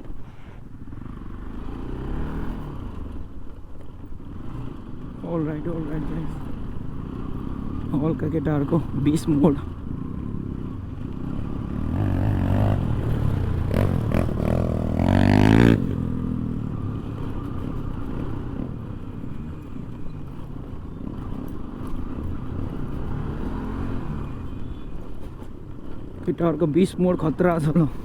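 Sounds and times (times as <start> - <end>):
motorcycle engine revving: 0.1 - 28.0.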